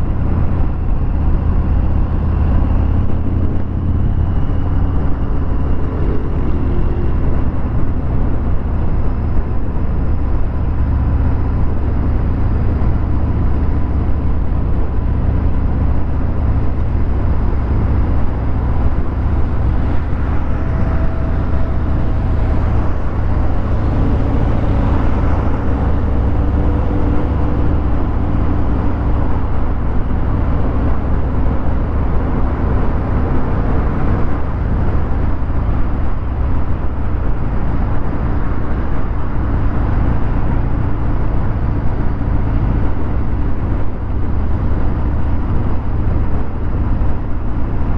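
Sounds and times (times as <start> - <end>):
motorcycle engine low rumble: 0.0 - 47.9.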